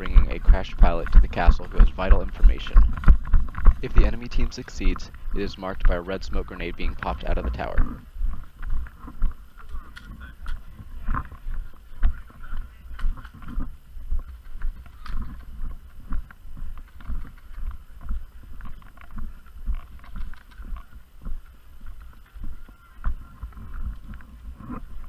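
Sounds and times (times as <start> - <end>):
footsteps walking: 0.0 - 25.0
gear clicking and rattling: 0.0 - 25.0.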